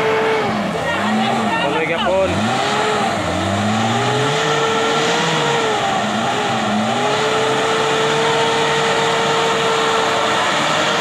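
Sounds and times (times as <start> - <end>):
off-road vehicle engine revving: 0.0 - 11.0
tires churning through mud: 0.0 - 11.0.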